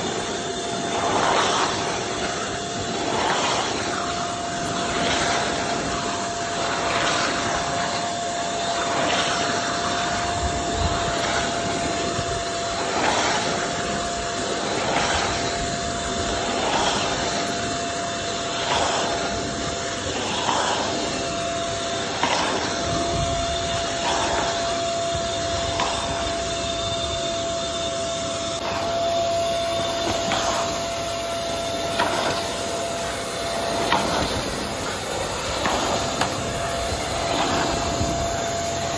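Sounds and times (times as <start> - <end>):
suction motor whining: 0.0 - 38.9.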